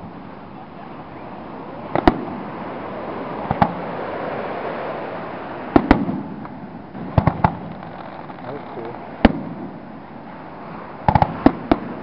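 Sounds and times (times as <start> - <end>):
fireworks bursting with sharp bangs: 1.8 - 12.0.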